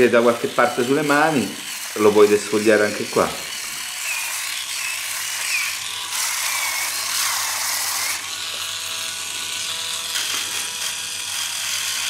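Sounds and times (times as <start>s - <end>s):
small electric motor whirring: 0.0s - 12.0s.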